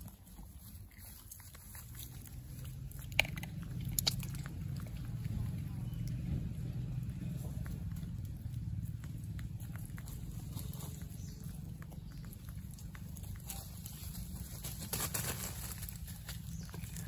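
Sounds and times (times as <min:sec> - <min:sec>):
dry leaves rustling: 0:00.0 - 0:17.0
steady low rumble: 0:00.0 - 0:17.0
small clicks of monkey eating: 0:00.2 - 0:14.7.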